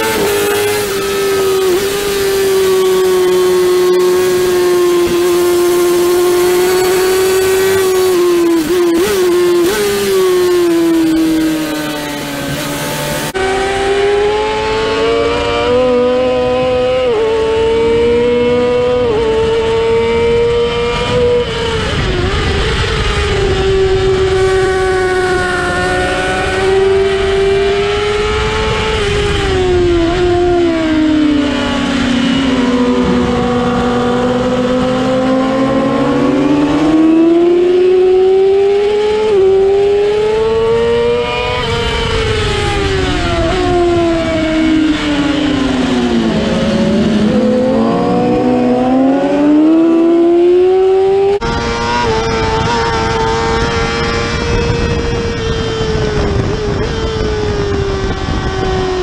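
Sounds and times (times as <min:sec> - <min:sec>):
motorcycle engines racing at high revs: 0:00.0 - 0:59.0.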